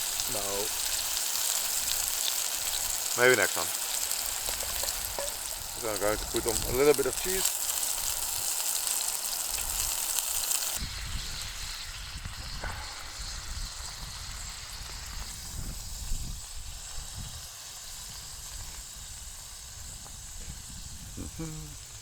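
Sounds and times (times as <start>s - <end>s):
burger patty sizzling in a pan: 0.0s - 22.0s.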